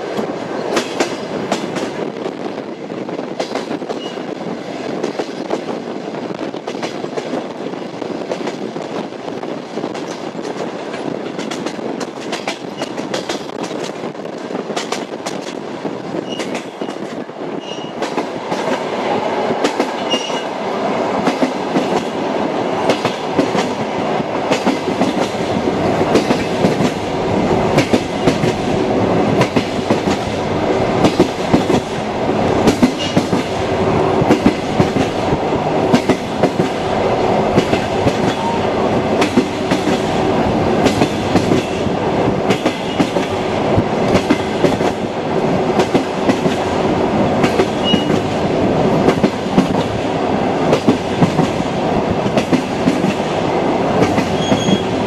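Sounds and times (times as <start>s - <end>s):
train rolling rumble: 0.0s - 55.0s
train wheels clicking over rails: 0.0s - 55.0s.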